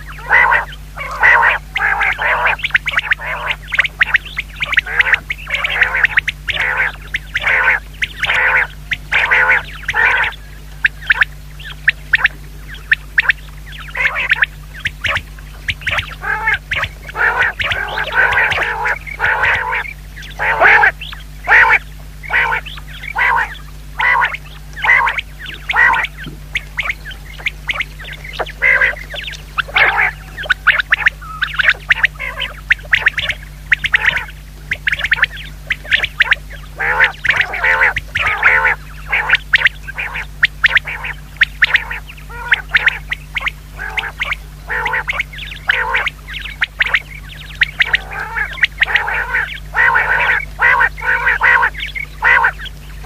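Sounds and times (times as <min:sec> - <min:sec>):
quail calling: 0:00.0 - 0:53.0.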